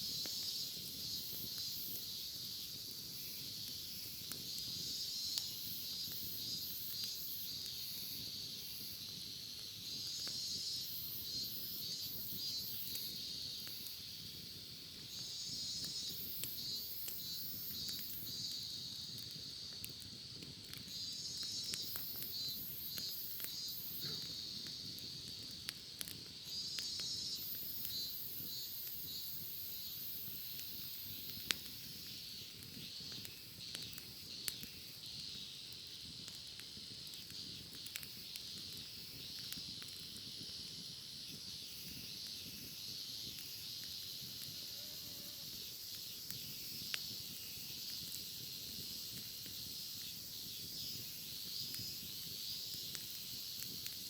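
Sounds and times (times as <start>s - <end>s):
campfire crackling and popping: 0.0s - 54.0s
cicadas singing: 0.0s - 54.0s.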